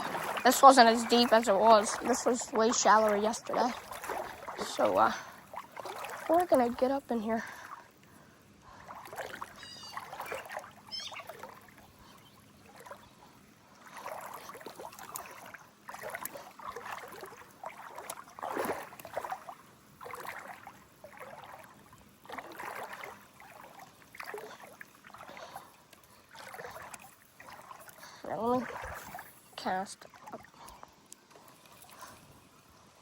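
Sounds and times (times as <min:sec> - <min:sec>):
wading through creek water: 0:00.0 - 0:33.0.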